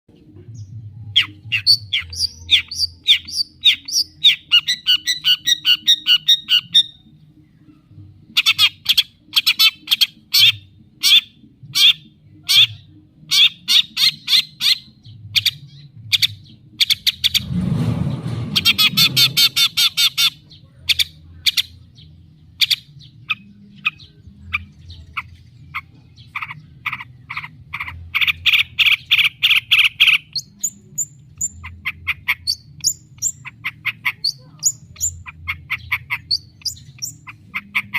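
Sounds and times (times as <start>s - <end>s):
bird singing chips and trills: 0.1s - 17.5s, 18.6s - 37.9s
harsh rasping bird chatter: 1.2s - 7.0s, 8.3s - 37.9s.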